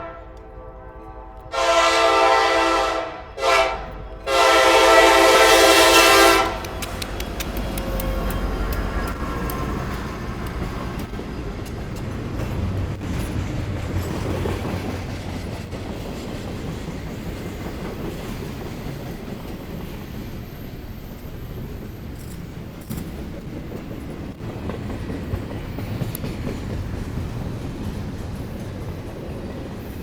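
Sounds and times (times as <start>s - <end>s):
freight train rumbling past: 0.0s - 30.0s
wheels clacking over rail joints: 3.8s - 30.0s.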